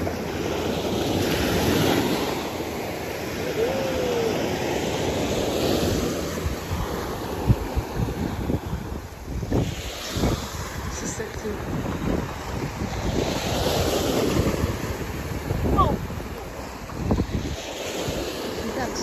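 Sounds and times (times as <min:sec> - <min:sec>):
surf washing on beach: 0:00.0 - 0:19.0
wind buffeting microphone: 0:03.4 - 0:19.0.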